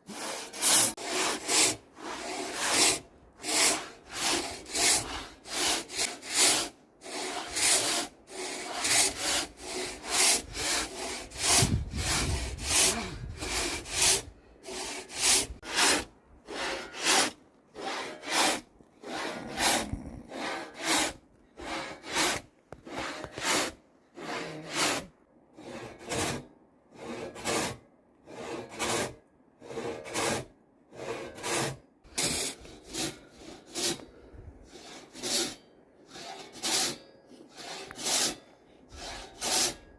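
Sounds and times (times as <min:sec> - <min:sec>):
hand saw cutting timber: 0:00.0 - 0:39.9.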